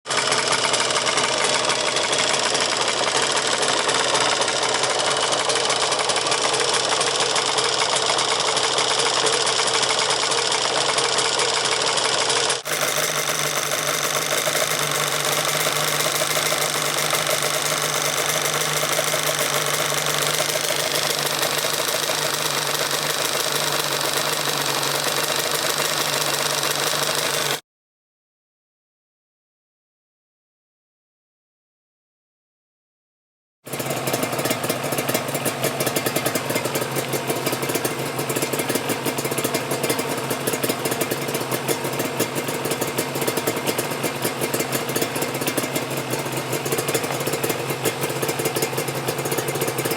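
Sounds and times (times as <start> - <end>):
two-stroke motorcycle engine running: 0.0 - 27.6, 33.7 - 49.9.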